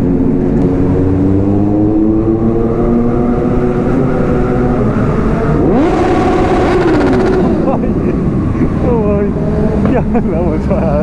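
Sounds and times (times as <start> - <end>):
motorcycle engine revving: 0.0 - 10.2
motorcycle engine in a tunnel: 0.0 - 11.0.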